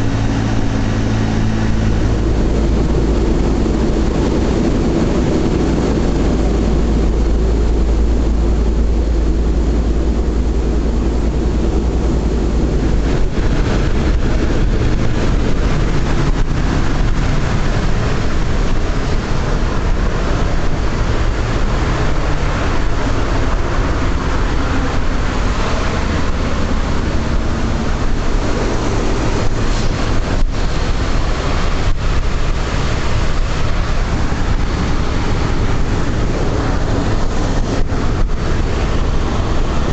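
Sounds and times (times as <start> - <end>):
radial aircraft engines droning: 0.0 - 39.9.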